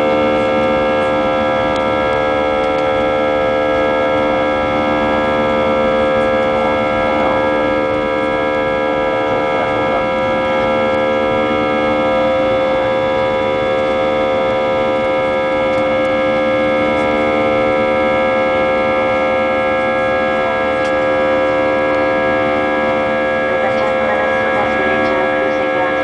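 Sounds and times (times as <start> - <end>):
jet engine drone in cabin: 0.0 - 26.0.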